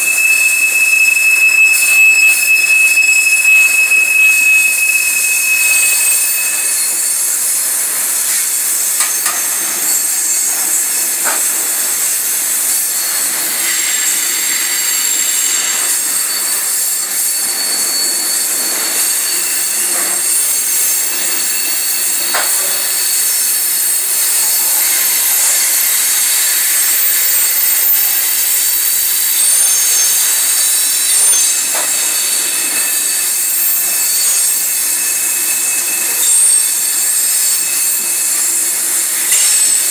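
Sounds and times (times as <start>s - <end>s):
train wheels squealing on rails: 0.0s - 39.9s.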